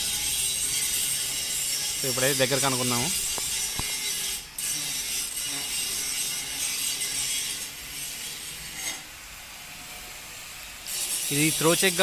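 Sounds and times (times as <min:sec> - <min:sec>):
lathe chuck metallic scraping: 0:00.0 - 0:12.0.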